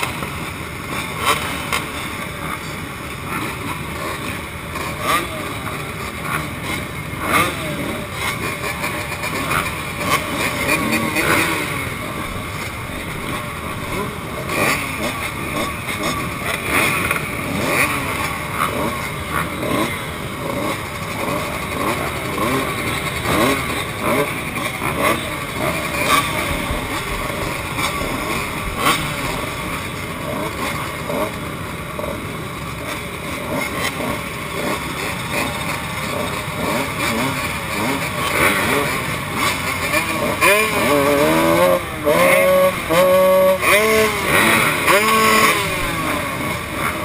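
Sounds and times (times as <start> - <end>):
motocross bikes idling and revving: 0.0 - 47.0
two-stroke motorcycle close by: 0.0 - 47.0.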